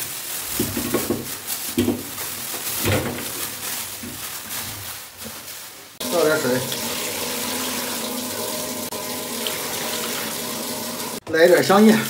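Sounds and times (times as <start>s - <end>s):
plastic bag rustling: 0.0s - 7.9s, 8.9s - 12.0s.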